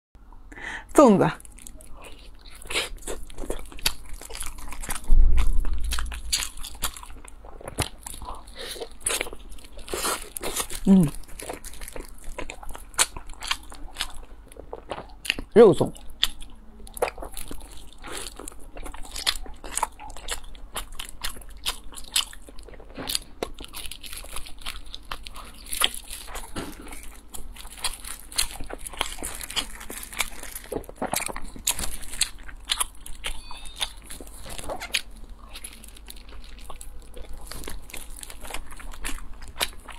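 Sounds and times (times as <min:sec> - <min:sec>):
chewing with crunches: 0:01.4 - 0:39.9.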